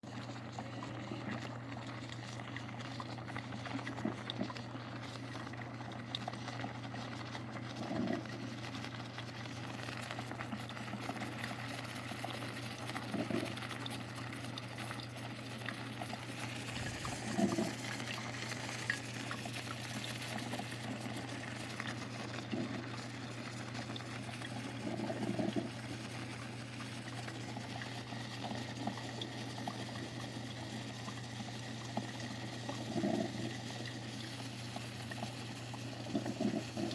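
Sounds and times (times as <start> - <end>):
coffee machine bubbling and gurgling: 0.0 - 36.9.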